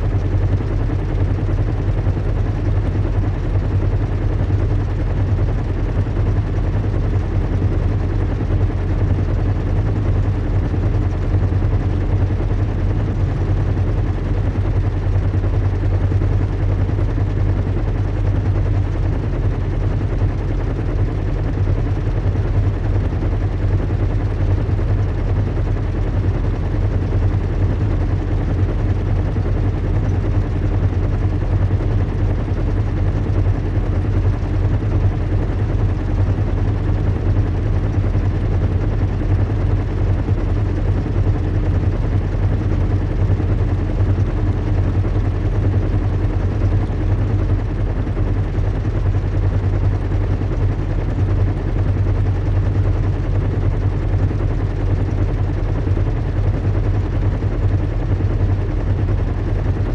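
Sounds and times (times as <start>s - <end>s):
engine drone: 0.0s - 59.9s.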